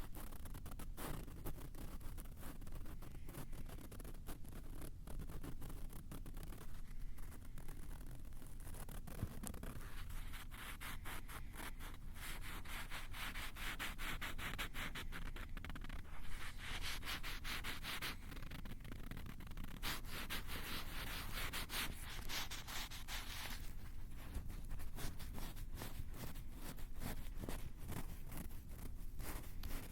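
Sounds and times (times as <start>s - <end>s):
fingers scratching on microphone: 0.0s - 29.9s.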